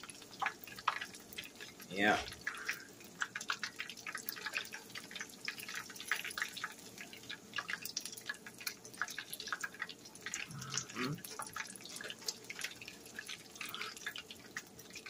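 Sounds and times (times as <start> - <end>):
chicken wings deep-frying in oil: 0.0 - 15.0.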